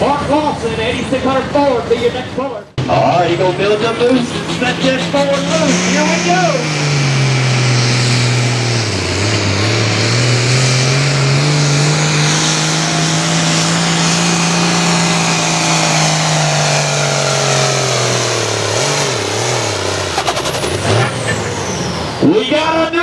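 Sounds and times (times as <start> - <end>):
tractor diesel engine at full throttle: 0.0 - 23.0.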